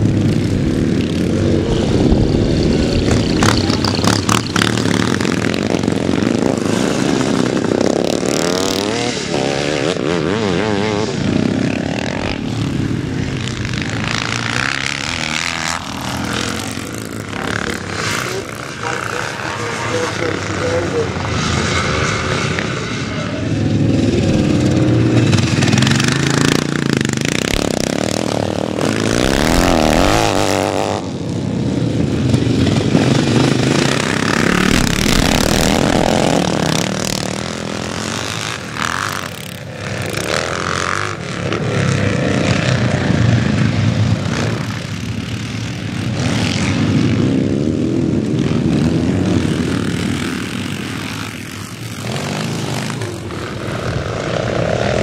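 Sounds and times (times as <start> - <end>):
motocross motorcycles revving: 0.0 - 55.0.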